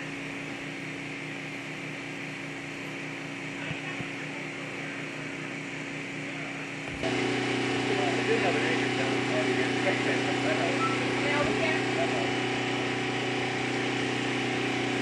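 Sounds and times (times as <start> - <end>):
low mechanical hum with pulsing beat: 0.0 - 15.0.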